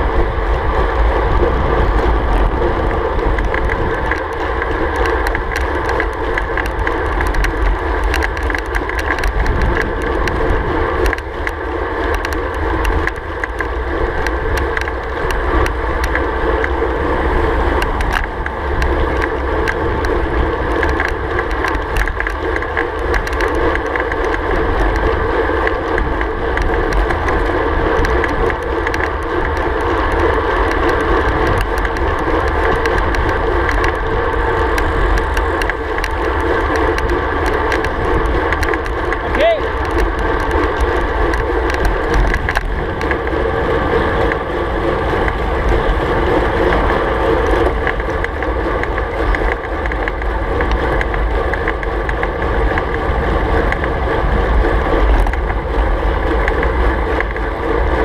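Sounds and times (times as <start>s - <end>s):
bicycle tyre noise: 0.0s - 58.0s
wind buffeting on microphone: 0.0s - 58.0s.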